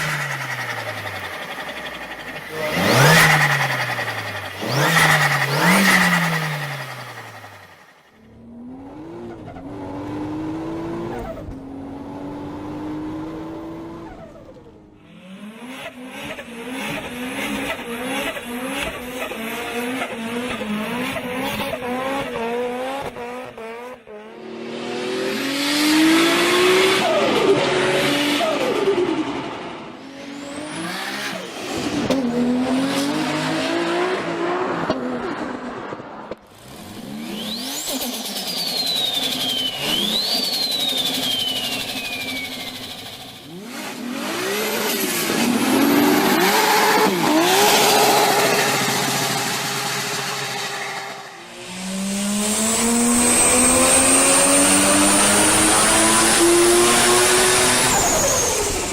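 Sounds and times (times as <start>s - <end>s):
sports car engine revving: 0.0s - 14.4s, 15.0s - 35.3s, 36.5s - 58.9s.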